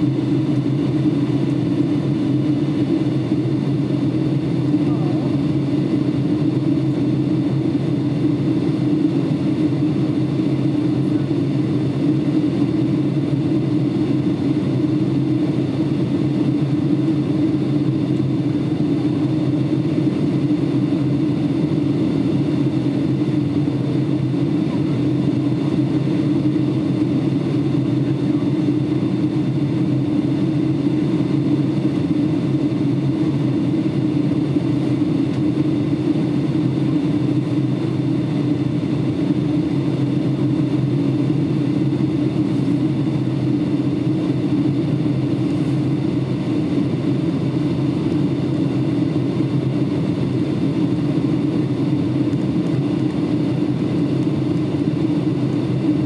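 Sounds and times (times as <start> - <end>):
aircraft cabin engine drone: 0.0 - 56.0.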